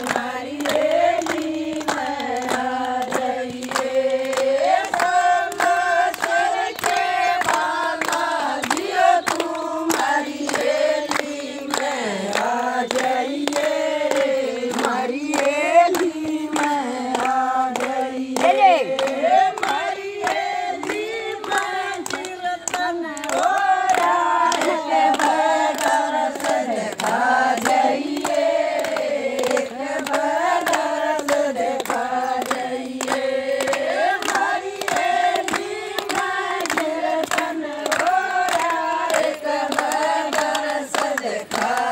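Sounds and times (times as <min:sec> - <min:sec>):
rhythmic hand clapping: 0:00.0 - 0:41.9
women singing together: 0:00.0 - 0:41.9.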